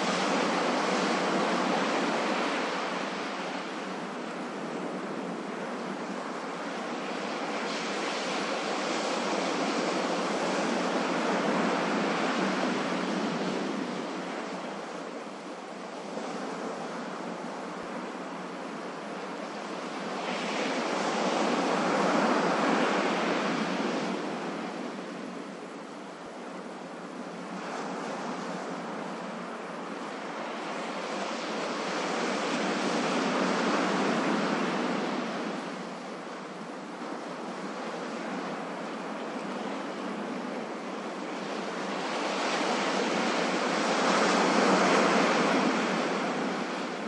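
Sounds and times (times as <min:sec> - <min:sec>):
ocean waves washing: 0:00.0 - 0:47.0.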